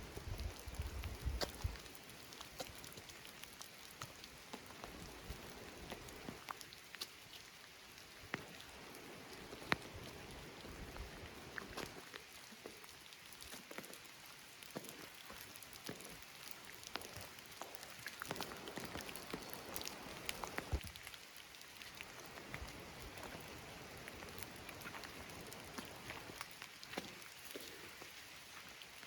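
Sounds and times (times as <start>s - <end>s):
close raindrop ticks: 0.0s - 29.0s
steady rain falling: 0.0s - 29.0s.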